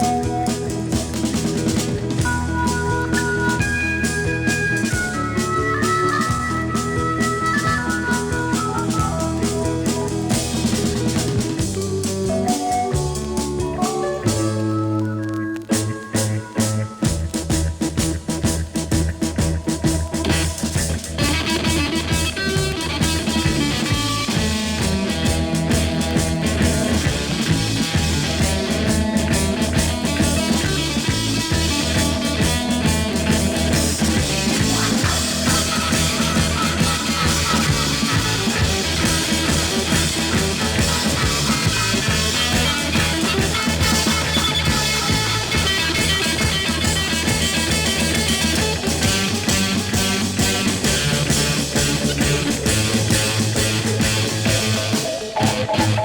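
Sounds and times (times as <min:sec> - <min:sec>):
instrumental rock music: 0:00.0 - 0:56.0.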